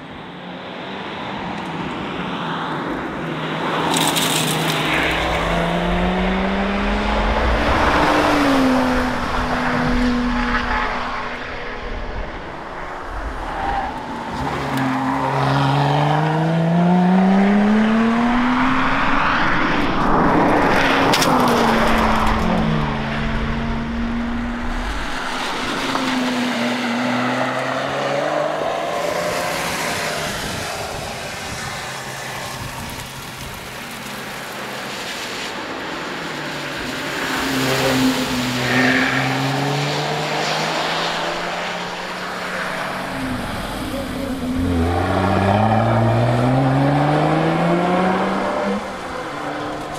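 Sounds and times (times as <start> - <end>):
car engine revving past: 4.5 - 13.5, 14.4 - 33.2, 37.4 - 49.9.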